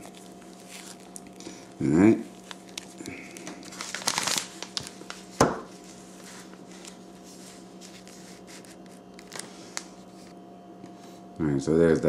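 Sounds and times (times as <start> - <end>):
hands rustling items: 0.0 - 10.4.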